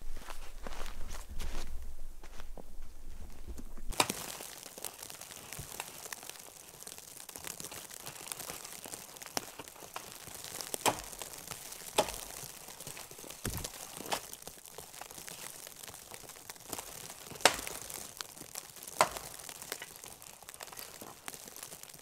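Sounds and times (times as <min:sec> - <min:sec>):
conifer boughs rustling and tearing: 0:03.1 - 0:22.0
branches cracking: 0:03.3 - 0:22.0.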